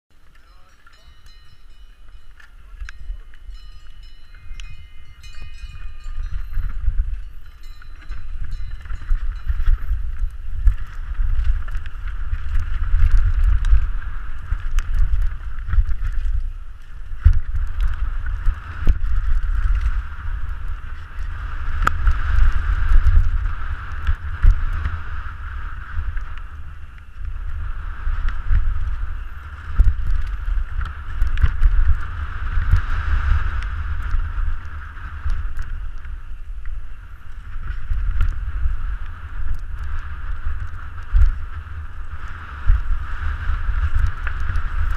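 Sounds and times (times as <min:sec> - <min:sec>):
bike clicks and knocks: 0:00.1 - 0:25.2, 0:28.1 - 0:43.0
wind rumbling on microphone: 0:00.1 - 0:44.9.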